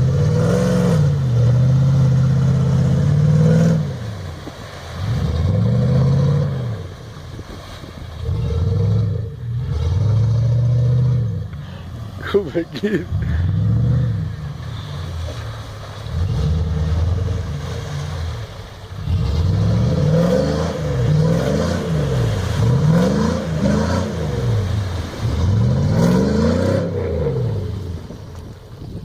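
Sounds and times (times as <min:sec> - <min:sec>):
engine revving: 0:00.0 - 0:07.0, 0:08.2 - 0:28.1.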